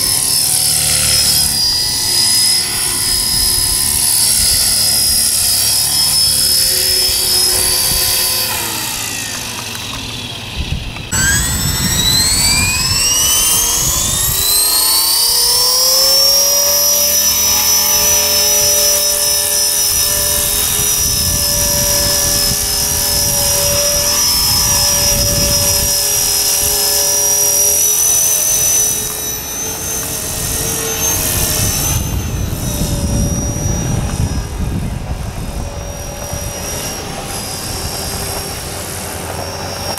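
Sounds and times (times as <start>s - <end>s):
rc helicopter motor whining: 0.0s - 39.9s
wind rumbling on microphone: 0.0s - 39.9s.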